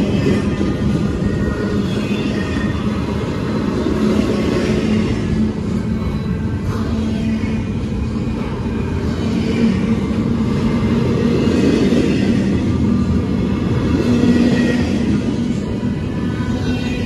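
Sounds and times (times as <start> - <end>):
steel wheels rumbling on rails: 0.0 - 17.0.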